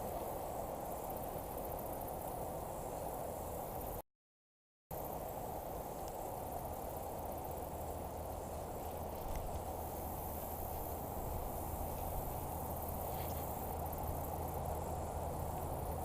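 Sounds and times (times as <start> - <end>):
insects trilling: 0.0 - 4.0, 4.9 - 16.0.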